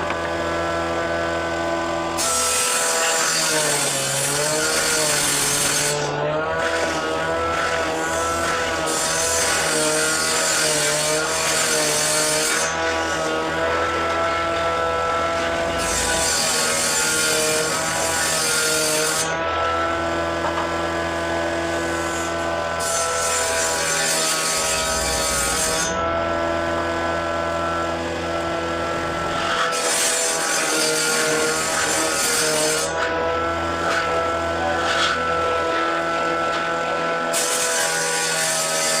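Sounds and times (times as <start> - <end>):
hissing wood cutting: 0.0 - 39.0
power tool motor whine: 0.0 - 39.0.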